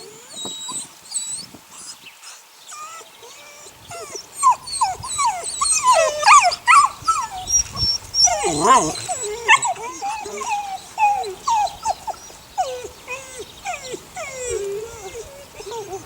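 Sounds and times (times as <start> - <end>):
puppies whining and yelping: 0.0 - 16.0.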